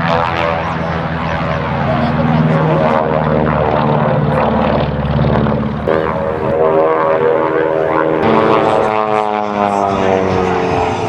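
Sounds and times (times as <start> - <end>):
propeller airplane engine overhead: 0.0 - 11.0.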